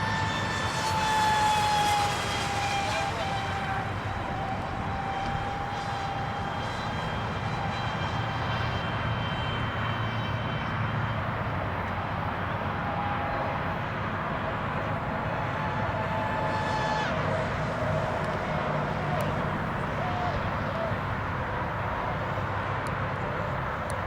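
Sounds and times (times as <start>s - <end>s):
model boat engines whining: 0.0s - 24.0s.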